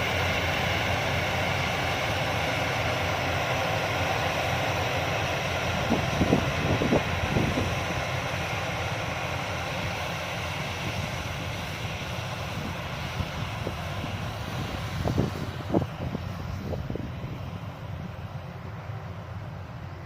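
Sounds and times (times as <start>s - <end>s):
combine harvester droning: 0.0s - 20.0s.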